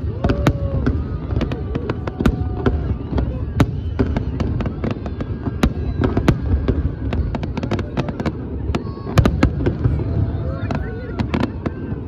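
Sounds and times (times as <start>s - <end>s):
distant fireworks rumble: 0.0s - 12.0s
fireworks cracks and bangs: 0.0s - 12.0s.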